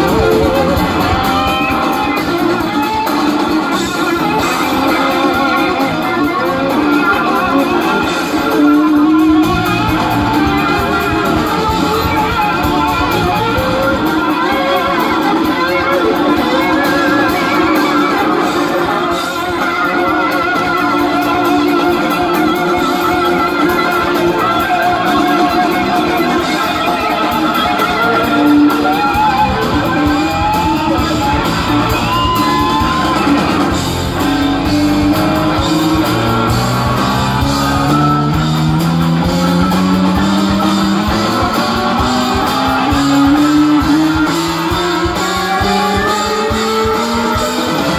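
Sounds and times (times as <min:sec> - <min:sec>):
drums: 0:00.0 - 0:47.9
electric guitars playing lead lines: 0:00.0 - 0:47.9.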